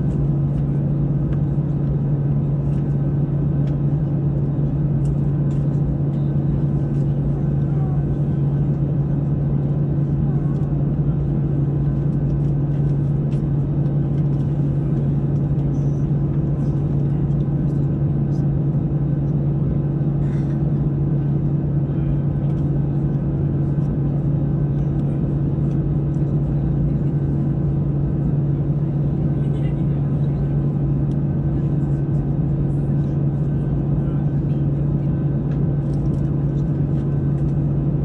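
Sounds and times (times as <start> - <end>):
jet engine drone in cabin: 0.0 - 38.0.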